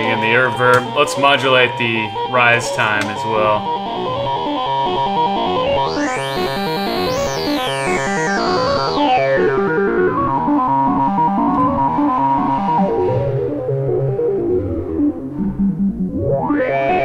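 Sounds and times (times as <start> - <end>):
synth tone sweeping: 0.0 - 17.0
synthesizer note pattern: 0.0 - 17.0.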